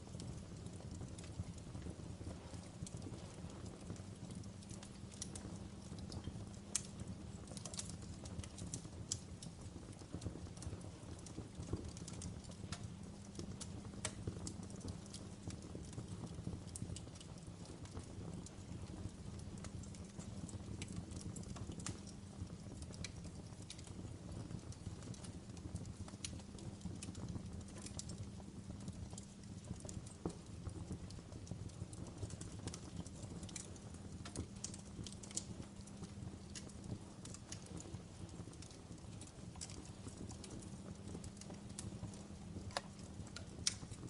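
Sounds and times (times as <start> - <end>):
low rumble of fire: 0.0 - 44.0
wood fire crackling: 0.0 - 44.0.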